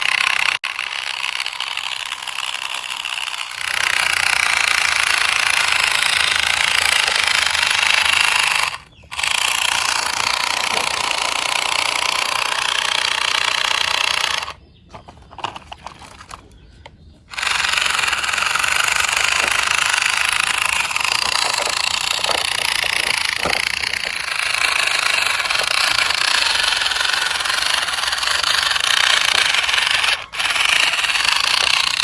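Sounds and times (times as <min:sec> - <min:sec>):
mechanical rattling: 0:00.0 - 0:16.4, 0:17.3 - 0:32.0.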